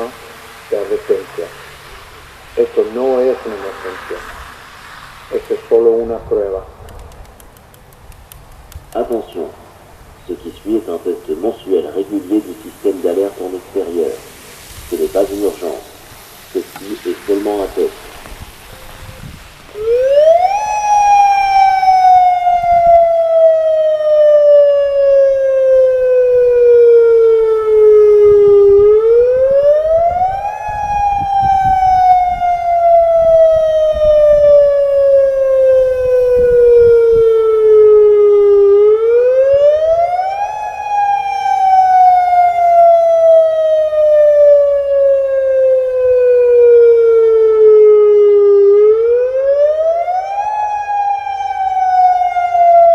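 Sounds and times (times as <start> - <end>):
rising and falling warning siren: 0.0 - 6.8, 9.0 - 52.9.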